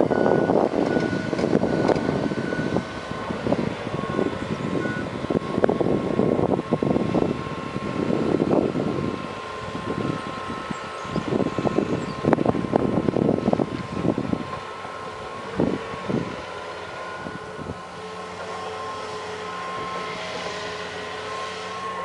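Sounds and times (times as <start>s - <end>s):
diesel engine whining: 0.0s - 22.0s.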